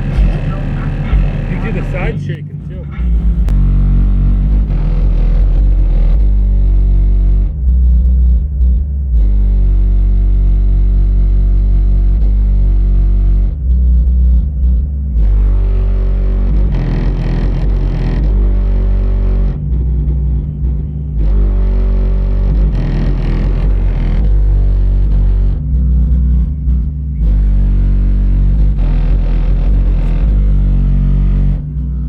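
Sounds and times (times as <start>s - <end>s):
bass-heavy music from car stereo: 0.0s - 32.0s.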